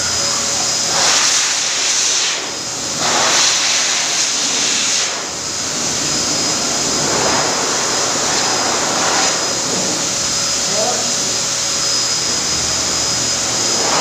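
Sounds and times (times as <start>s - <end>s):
dryer blowing air: 0.0s - 14.0s.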